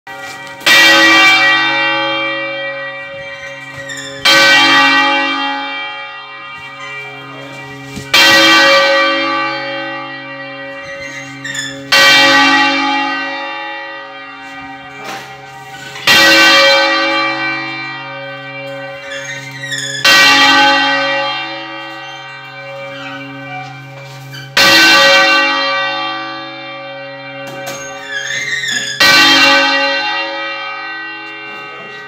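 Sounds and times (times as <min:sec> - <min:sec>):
large church bell ringing: 0:00.1 - 0:32.0.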